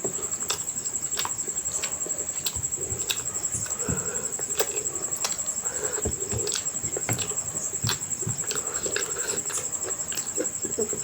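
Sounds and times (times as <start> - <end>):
person chewing and lip-smacking: 0.4 - 11.0.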